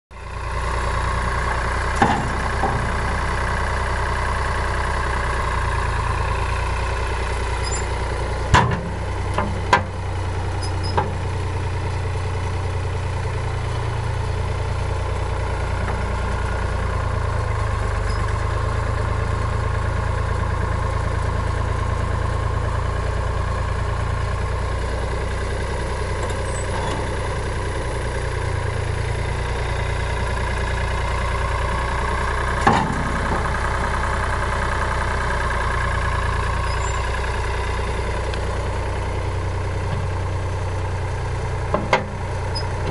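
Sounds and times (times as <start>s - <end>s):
tractor engine running: 0.1s - 42.9s.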